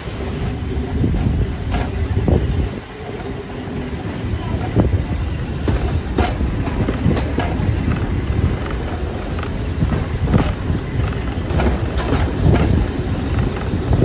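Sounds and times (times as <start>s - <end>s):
train wheels rumbling on track: 0.0s - 14.0s
wheels clicking over rails: 0.0s - 14.0s.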